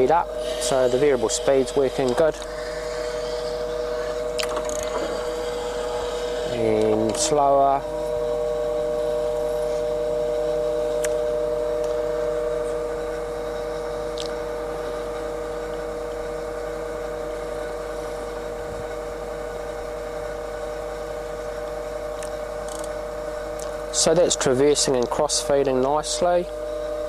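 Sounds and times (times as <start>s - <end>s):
hydraulic pump whine: 0.0s - 27.0s.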